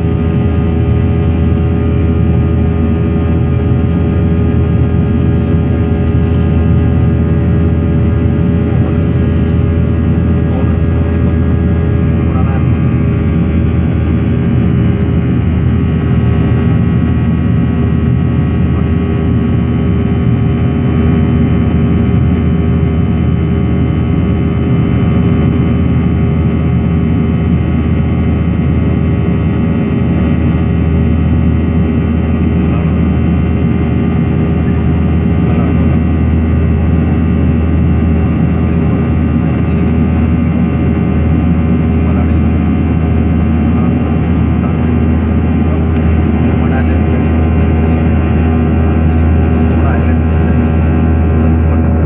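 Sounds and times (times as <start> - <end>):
airliner cabin engine rush: 0.0 - 52.0
steady whining tones: 0.0 - 52.0.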